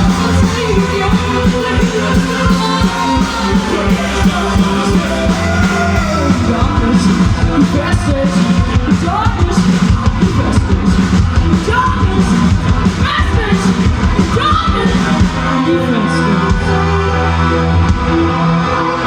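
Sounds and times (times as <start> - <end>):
person singing: 0.0 - 19.0
rock band playing loudly: 0.0 - 19.0.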